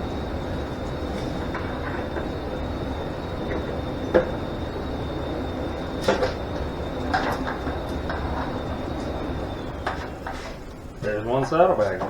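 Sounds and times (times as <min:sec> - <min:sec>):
faint high whine: 0:00.0 - 0:12.0
shop hum: 0:00.0 - 0:12.0.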